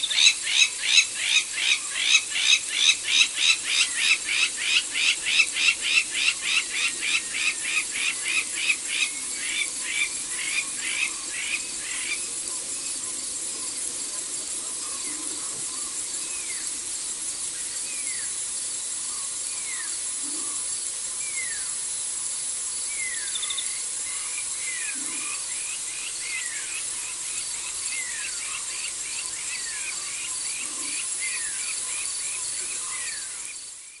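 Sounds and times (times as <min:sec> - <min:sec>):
high insect trill: 0:00.0 - 0:34.0.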